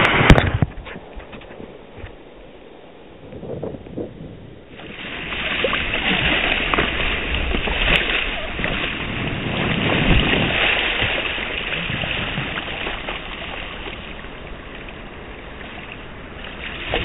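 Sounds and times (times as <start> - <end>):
sea water rushing and sloshing: 0.0 - 3.3, 4.6 - 17.0.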